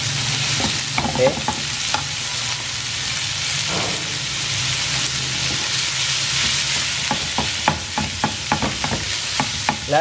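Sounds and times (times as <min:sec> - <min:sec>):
ground beef sizzling in a pan: 0:00.0 - 0:10.0.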